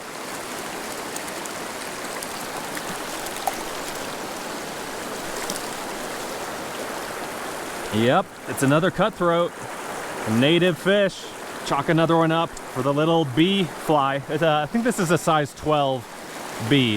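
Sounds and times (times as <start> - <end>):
river water rushing: 0.0 - 16.9.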